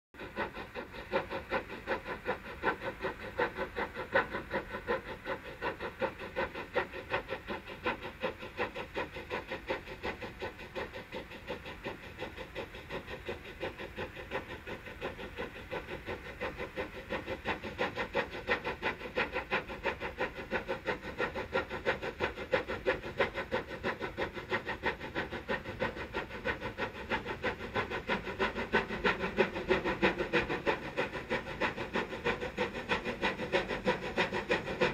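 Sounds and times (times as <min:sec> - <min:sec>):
steam locomotive chuffing: 0:00.2 - 0:34.9.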